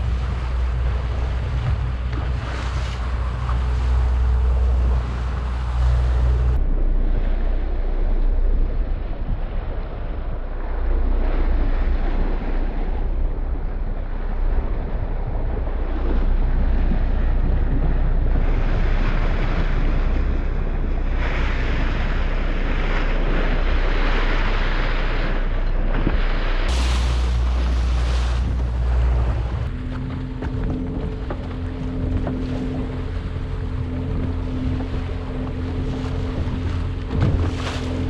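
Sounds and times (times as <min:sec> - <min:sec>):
low rumble: 0:00.0 - 0:38.0
water rushing around boat: 0:00.0 - 0:38.0
wind buffeting microphone: 0:00.0 - 0:38.0.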